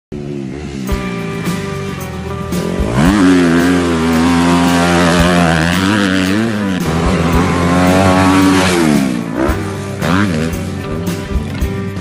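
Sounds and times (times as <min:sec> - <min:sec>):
dirt bike engine revving: 0:00.1 - 0:12.0.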